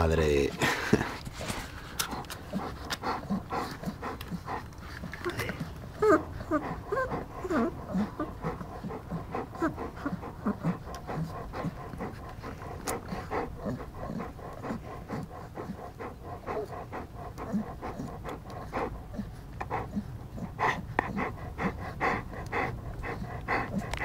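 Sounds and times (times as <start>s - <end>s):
puppies suckling: 0.1s - 24.0s.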